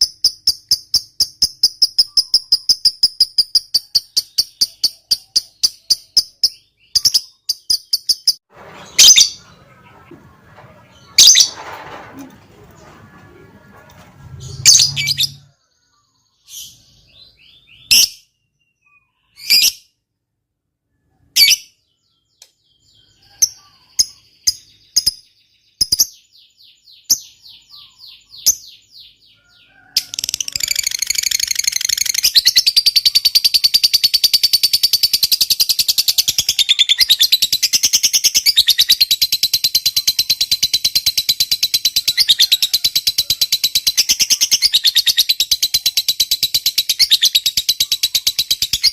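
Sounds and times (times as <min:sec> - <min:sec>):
lovebird chirping and trilling: 0:00.0 - 0:09.8, 0:10.9 - 0:11.6, 0:14.3 - 0:19.9, 0:21.3 - 0:48.9.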